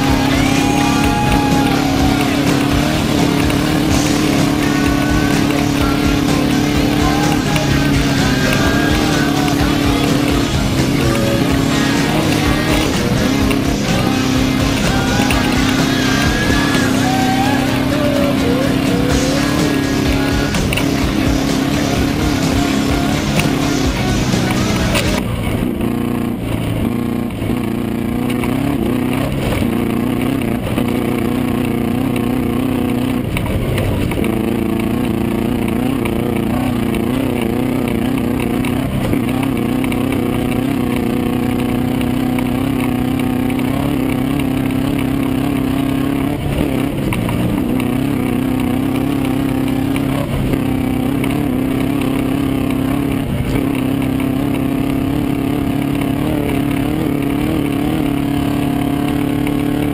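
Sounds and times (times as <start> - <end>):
buggy engine running: 0.0 - 59.9.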